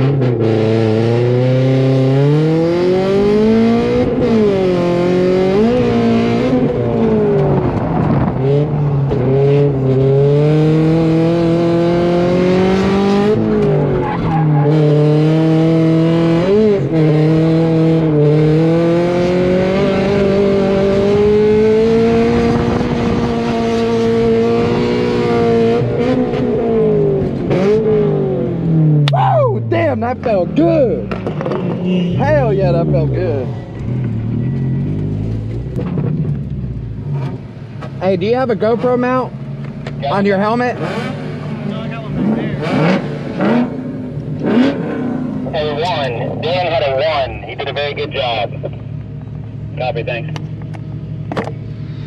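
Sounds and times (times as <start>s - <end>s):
car engine at high revs: 0.0s - 52.0s.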